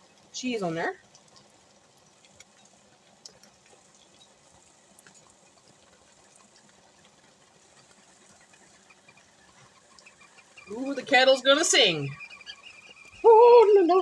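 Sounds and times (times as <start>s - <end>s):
pans frying with crackles: 0.0s - 14.0s.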